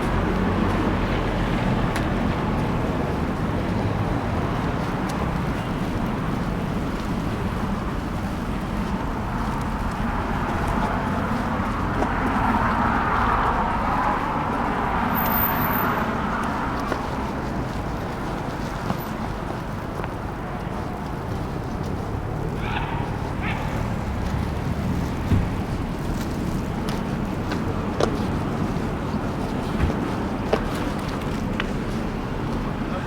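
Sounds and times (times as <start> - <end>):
passing car traffic: 0.0 - 33.0.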